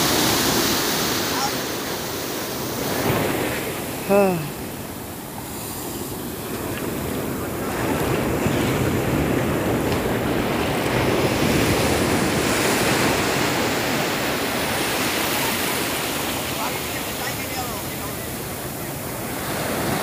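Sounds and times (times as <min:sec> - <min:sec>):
sea surf breaking on beach: 0:00.0 - 0:20.0.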